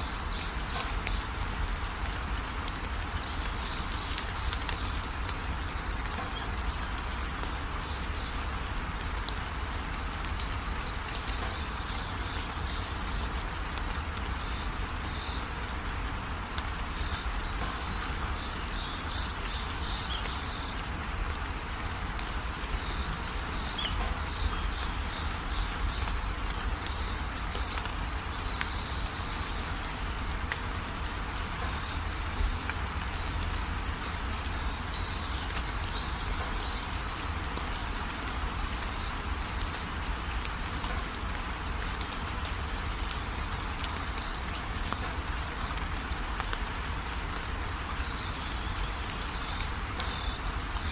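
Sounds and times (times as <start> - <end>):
birds chirping: 0.0 - 45.4
rain falling: 0.0 - 50.9.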